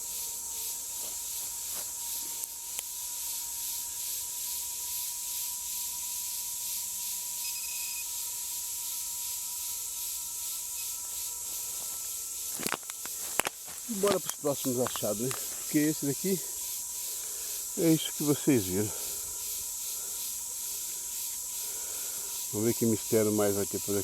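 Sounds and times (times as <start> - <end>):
faint steady whine: 0.0 - 24.0
insects buzzing: 0.0 - 24.0.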